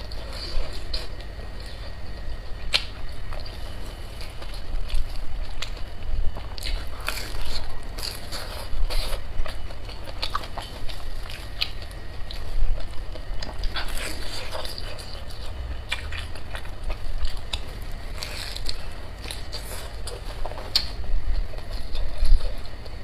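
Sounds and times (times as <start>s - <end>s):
biting and chewing: 0.0s - 23.0s
steady low hum: 0.0s - 23.0s.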